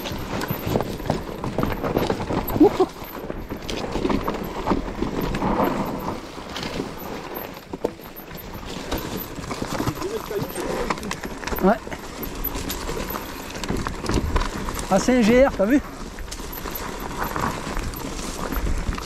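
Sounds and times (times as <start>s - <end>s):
bike rattling: 0.0s - 19.0s
bike tyres crunching over rocks: 0.0s - 19.0s.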